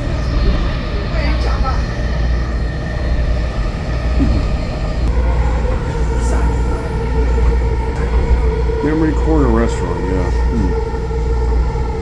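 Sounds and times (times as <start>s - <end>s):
train low rumble: 0.0s - 12.0s
train whine: 0.0s - 12.0s.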